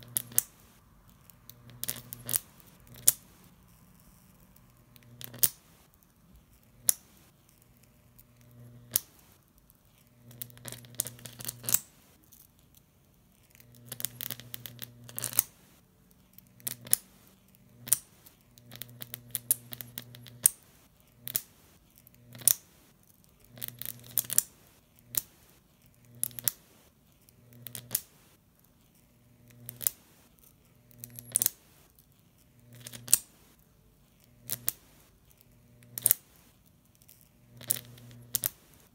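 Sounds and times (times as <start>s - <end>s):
electric arc buzzing and cracking: 0.0s - 9.4s, 10.0s - 12.2s, 13.4s - 15.8s, 16.6s - 22.8s, 23.4s - 26.7s, 27.4s - 28.4s, 29.3s - 30.1s, 30.8s - 31.9s, 32.6s - 33.6s, 34.2s - 38.9s.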